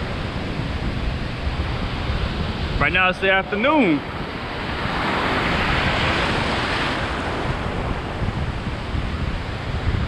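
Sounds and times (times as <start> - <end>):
ocean surf washing: 0.0 - 10.0
wind on microphone: 0.0 - 10.0.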